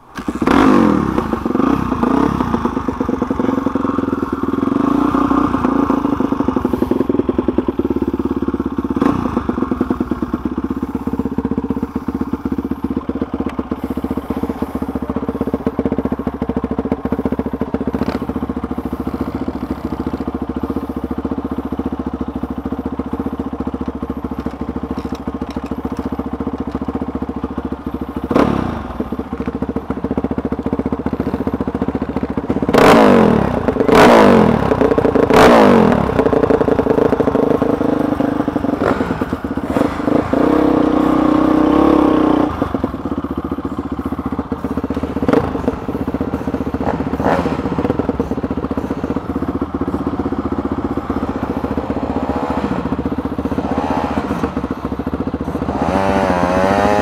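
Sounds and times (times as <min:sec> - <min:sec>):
dirt bike engine starting and idling: 0:00.0 - 0:57.0.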